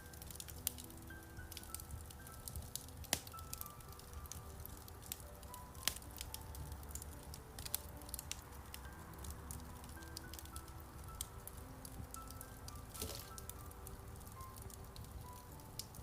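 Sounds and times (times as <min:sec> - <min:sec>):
soft slow piano notes: 0:00.0 - 0:16.0
wood fire crackling and popping: 0:00.0 - 0:16.0.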